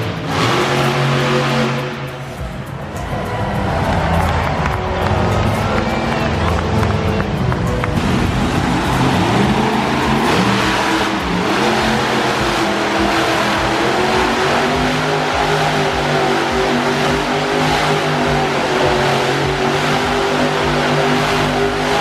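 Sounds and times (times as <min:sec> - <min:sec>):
monster truck engine revving: 0:00.0 - 0:22.0.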